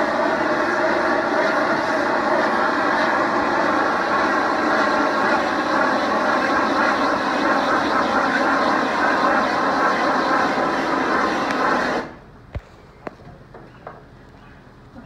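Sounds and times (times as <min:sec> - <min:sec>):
heat gun rushing: 0:00.0 - 0:12.2.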